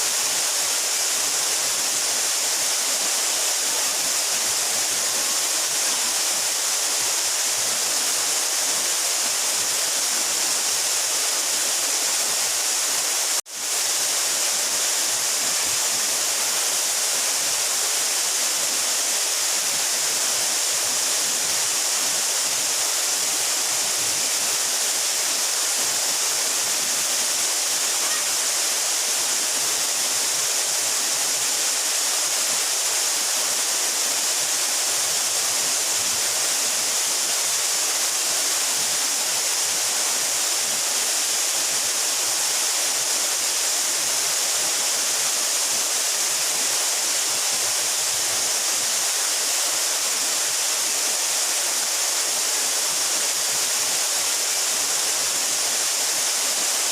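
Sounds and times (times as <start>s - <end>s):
waterfall pouring: 0.0s - 56.9s.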